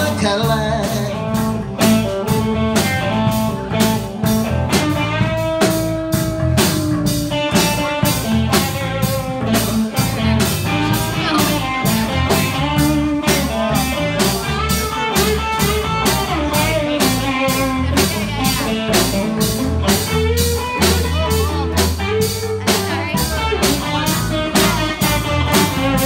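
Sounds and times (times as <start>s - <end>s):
drum kit steady beat: 0.0s - 26.0s
electric guitars bending notes: 0.0s - 26.0s.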